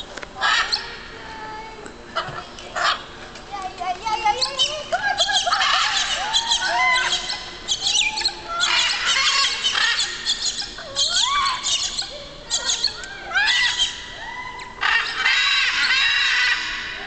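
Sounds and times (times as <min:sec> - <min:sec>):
parrots squawking: 0:00.4 - 0:01.0, 0:02.2 - 0:03.1, 0:04.2 - 0:17.0.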